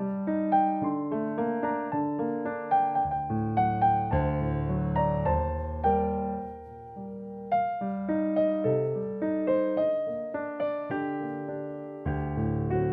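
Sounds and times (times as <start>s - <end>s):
slow solo piano melody: 0.0s - 12.9s.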